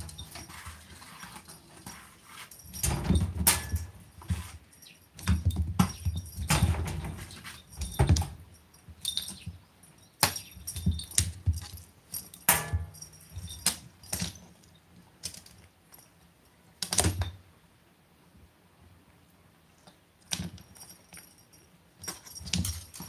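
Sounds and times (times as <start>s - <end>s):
cat collar jingling: 0.0s - 16.5s, 20.2s - 23.0s.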